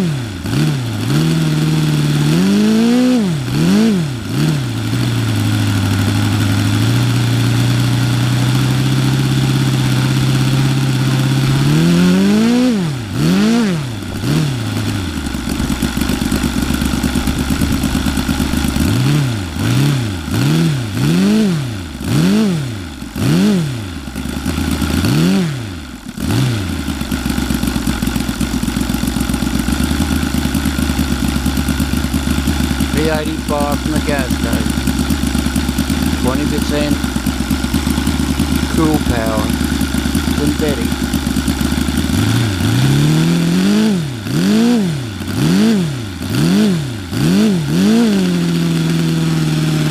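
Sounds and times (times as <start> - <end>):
model engine revving and idling: 0.0 - 49.9.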